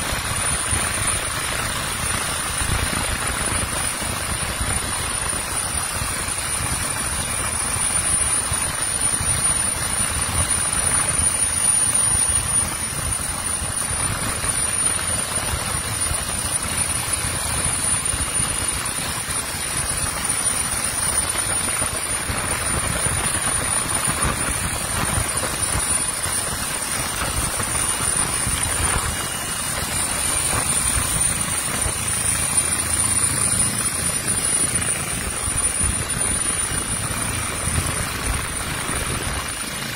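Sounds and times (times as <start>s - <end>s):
helicopter rotor pulsing: 0.0s - 39.9s
turbine whine: 0.0s - 39.9s.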